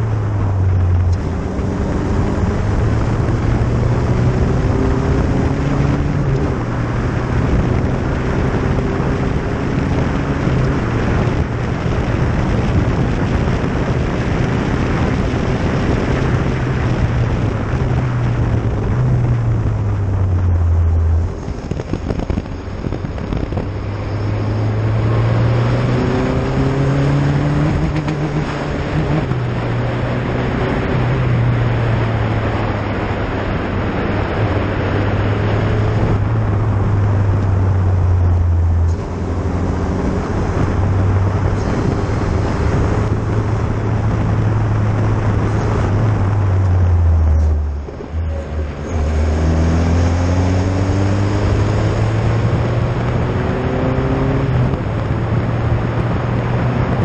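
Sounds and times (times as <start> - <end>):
wind and road noise: 0.0 - 57.0
race car engine changing gear: 0.3 - 29.8, 35.0 - 56.1.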